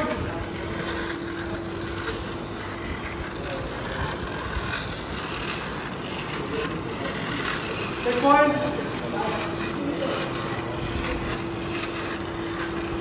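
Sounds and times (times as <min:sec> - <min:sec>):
faint indistinct voices: 0:00.0 - 0:13.0
mechanical hum: 0:00.0 - 0:13.0.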